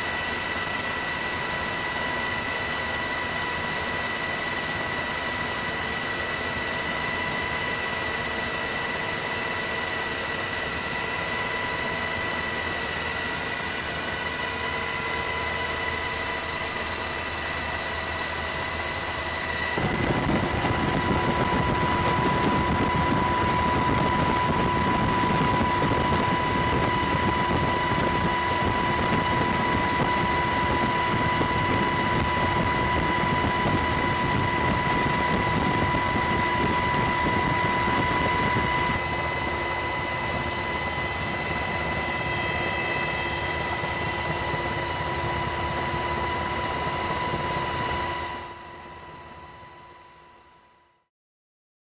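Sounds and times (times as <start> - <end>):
helicopter turbine and rotor: 0.0 - 50.6.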